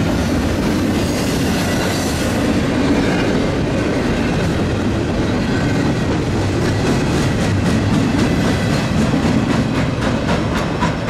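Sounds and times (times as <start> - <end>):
clickety-clack of wheels: 0.0 - 11.0
steel wheels rumbling on rail: 0.0 - 11.0.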